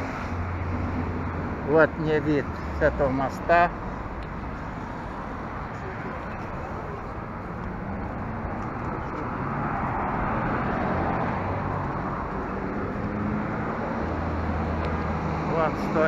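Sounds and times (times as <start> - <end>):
cars driving past: 0.0 - 16.0
low hum of traffic: 0.0 - 16.0.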